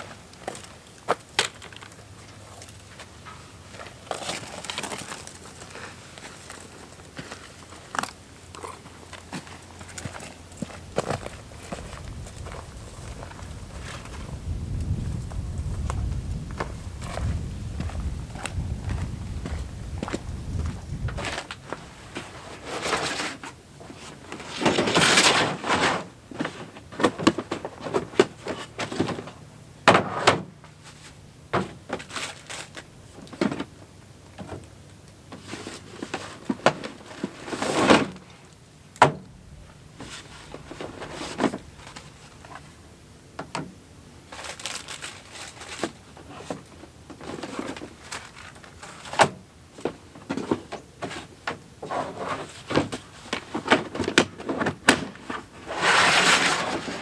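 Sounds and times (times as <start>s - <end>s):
rustling: 0.0s - 29.4s, 30.0s - 33.7s, 39.4s - 42.8s, 44.2s - 57.0s.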